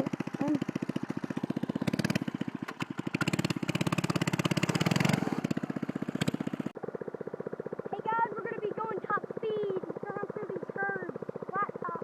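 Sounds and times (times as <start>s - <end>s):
mini bike engine popping: 0.0s - 12.0s.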